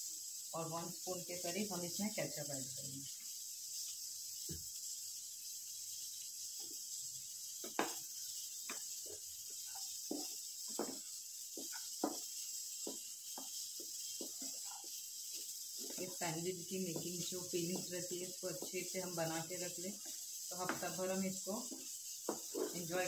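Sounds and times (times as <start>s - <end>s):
faint hiss: 0.0s - 23.0s
spatula scraping frying pan: 3.1s - 23.0s.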